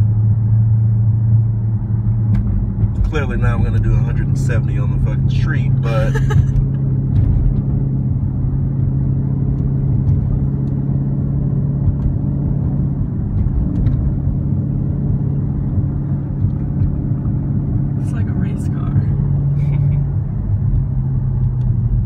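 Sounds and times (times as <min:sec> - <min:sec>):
car engine drone from cabin: 0:00.0 - 0:22.0.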